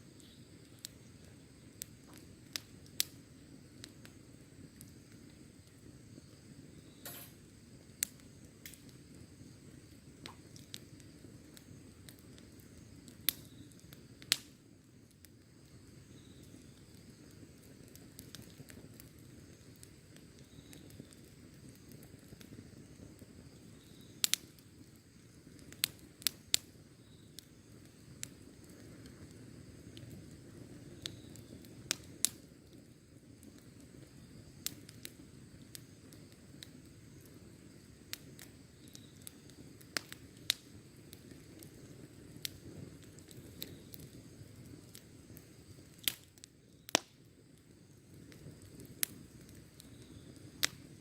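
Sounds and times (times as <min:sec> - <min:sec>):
burning wood popping: 0:00.0 - 0:51.0
campfire flame rushing: 0:00.0 - 0:51.0.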